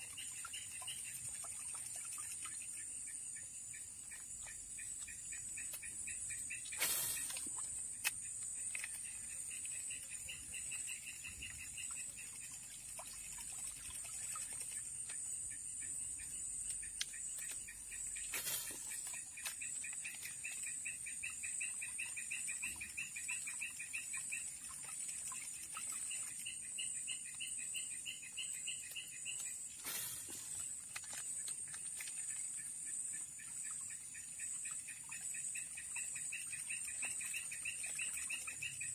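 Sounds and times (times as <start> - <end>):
rapid insect chirps: 0.0 - 38.9.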